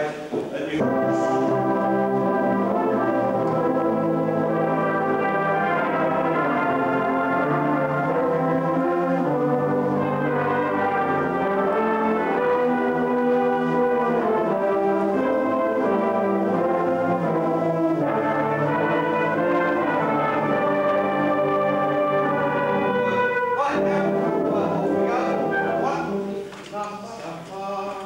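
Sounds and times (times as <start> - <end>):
brass band playing chords: 0.8 - 26.6.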